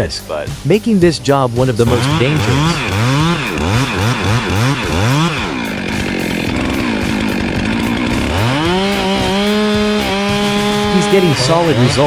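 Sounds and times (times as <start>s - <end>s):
two-stroke chainsaw revving: 1.4s - 12.0s.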